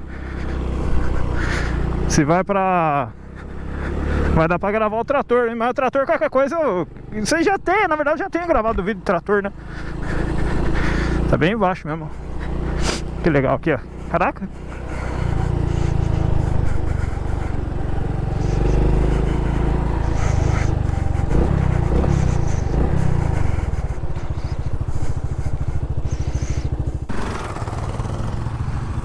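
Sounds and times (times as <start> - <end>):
small motorcycle engine running: 0.0 - 29.0.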